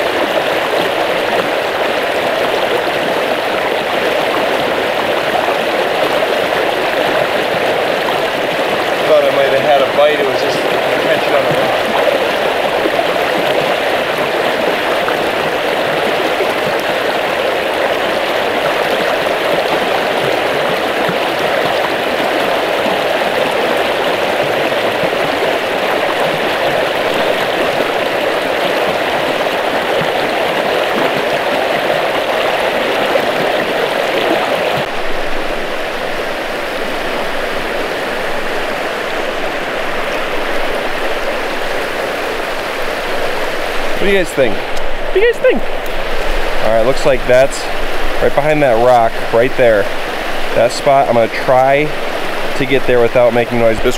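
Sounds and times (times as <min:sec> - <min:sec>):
river water rushing: 0:00.0 - 0:53.9.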